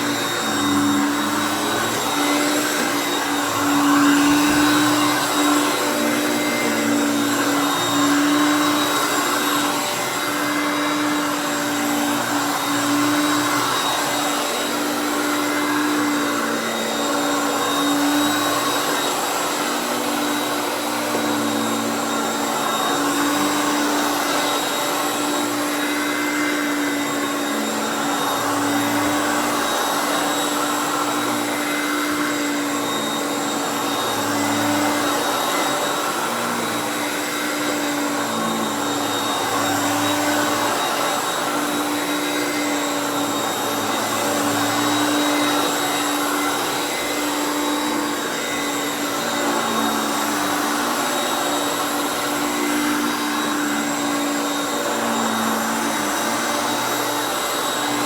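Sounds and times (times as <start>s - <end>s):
vacuum cleaner motor hum: 0.0s - 58.0s.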